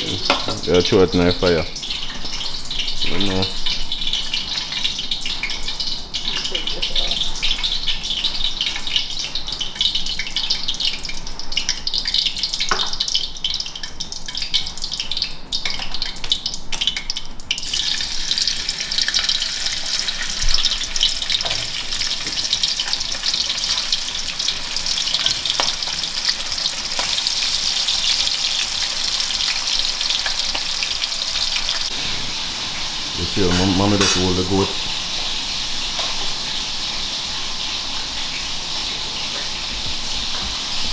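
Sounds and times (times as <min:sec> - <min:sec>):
meat sizzling in hot oil: 0:00.0 - 0:40.9.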